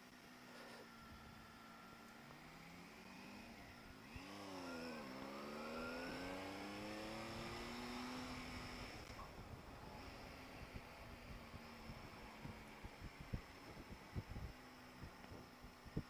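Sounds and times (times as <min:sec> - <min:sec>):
motorcycle engine accelerating: 0:00.9 - 0:16.0.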